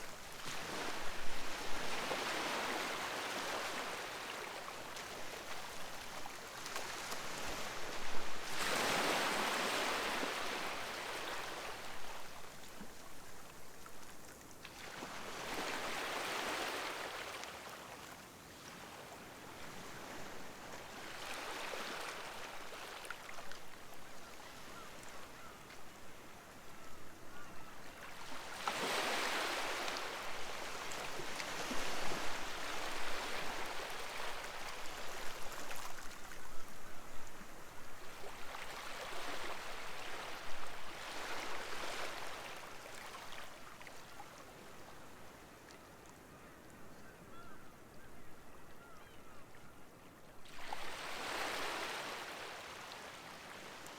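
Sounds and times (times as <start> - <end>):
small waves washing up beach: 0.0 - 25.2, 28.0 - 36.4, 37.2 - 44.7, 50.4 - 53.9.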